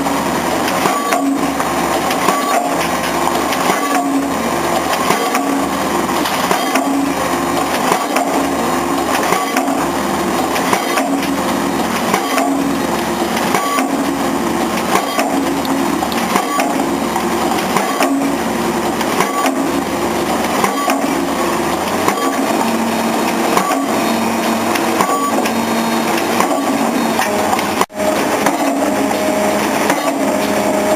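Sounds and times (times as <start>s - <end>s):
rig engine running: 0.0s - 30.9s
pile driver hammering: 0.6s - 30.7s.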